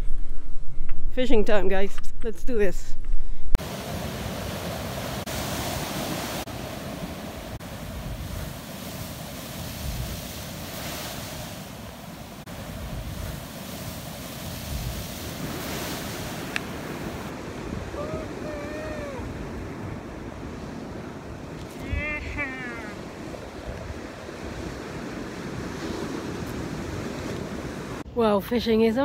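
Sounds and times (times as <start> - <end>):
ocean surf breaking on rocks: 3.6 - 28.1.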